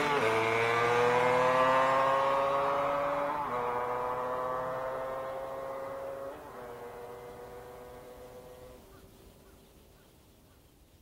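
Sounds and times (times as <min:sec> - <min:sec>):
distant vehicle engine: 0:00.0 - 0:10.2
faint outdoor background: 0:00.0 - 0:11.0.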